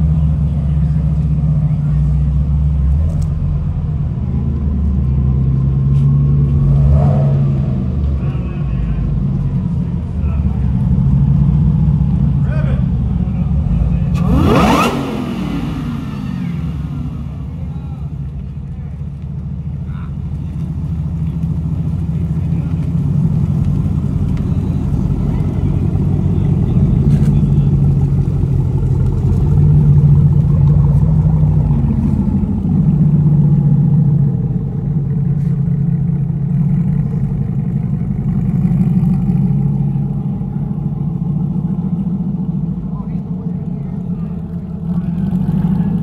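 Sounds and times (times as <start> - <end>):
car exhaust rumble passing: 0.0 - 46.0.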